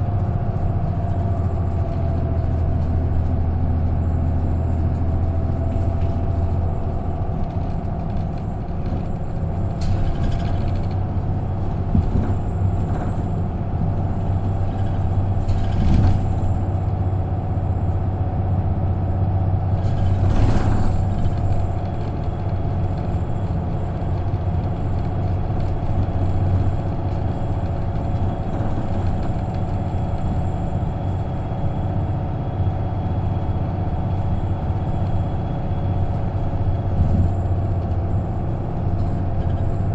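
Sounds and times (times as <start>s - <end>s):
bus engine hum: 0.0s - 39.9s.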